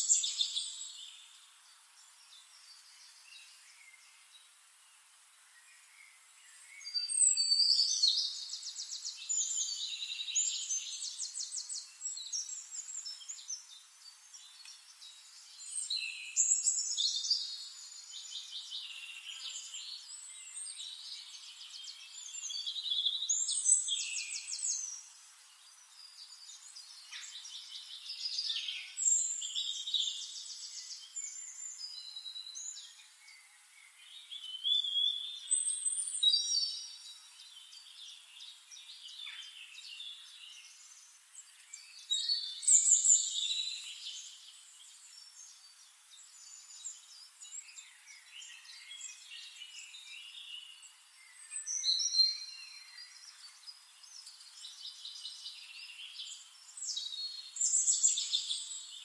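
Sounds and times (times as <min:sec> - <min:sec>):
faint hiss: 0:00.0 - 0:59.0
songbirds trilling and chirping: 0:00.0 - 0:59.0.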